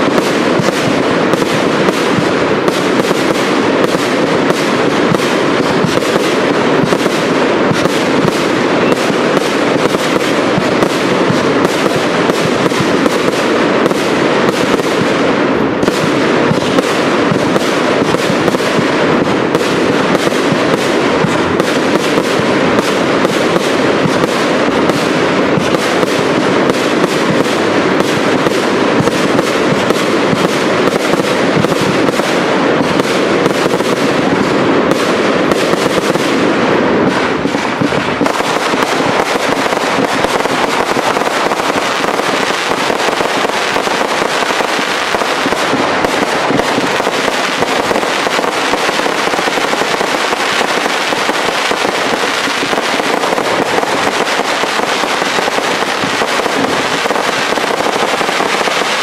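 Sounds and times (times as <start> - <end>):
fireworks barrage: 0.0 - 59.0.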